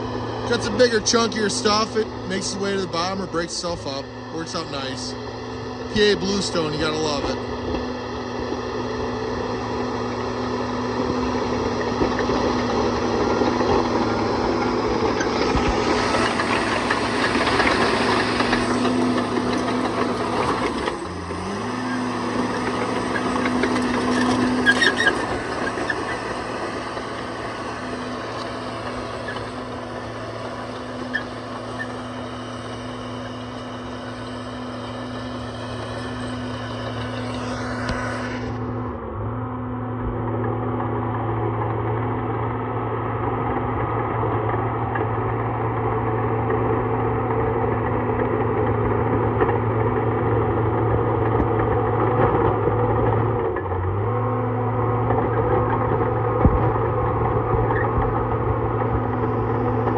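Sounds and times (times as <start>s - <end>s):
bulldozer engine under load: 0.0s - 59.9s.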